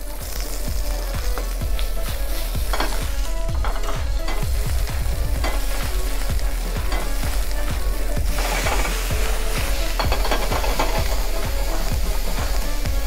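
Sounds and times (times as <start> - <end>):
vegetables sizzling in a wok: 0.0 - 13.0
stirring knocks: 1.2 - 13.0.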